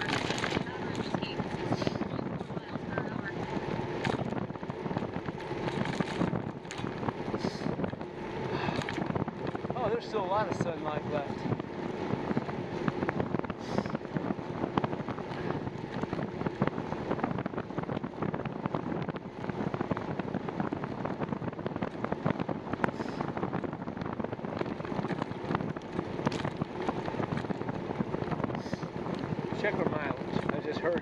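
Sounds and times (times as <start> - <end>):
bicycle clicks and rattles: 0.0 - 2.4, 3.3 - 10.6, 11.2 - 31.0
wind rushing over microphone: 0.0 - 31.0.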